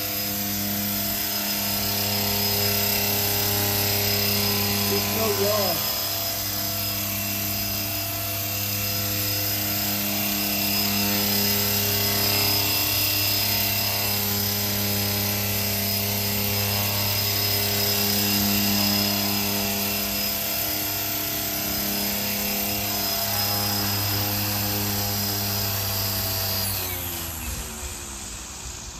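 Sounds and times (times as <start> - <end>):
model helicopter rotors humming: 0.0 - 28.9.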